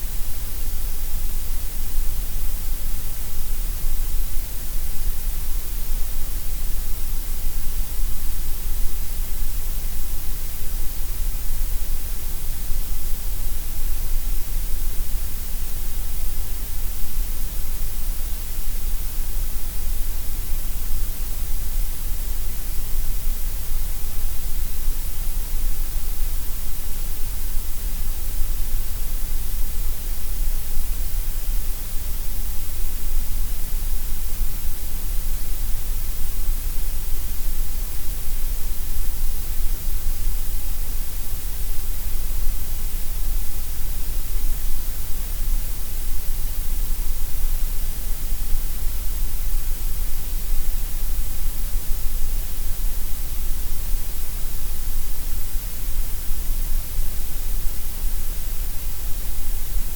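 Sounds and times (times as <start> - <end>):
gray noise hiss: 0.0 - 59.9.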